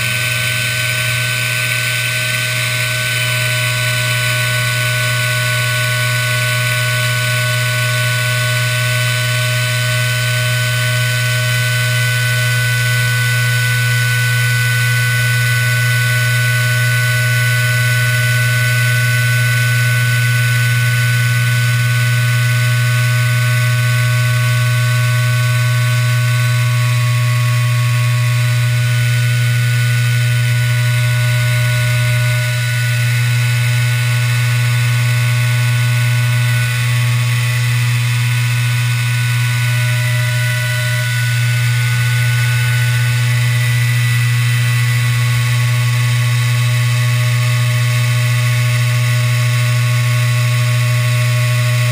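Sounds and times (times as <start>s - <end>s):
router spindle hum and whine: 0.0s - 51.9s.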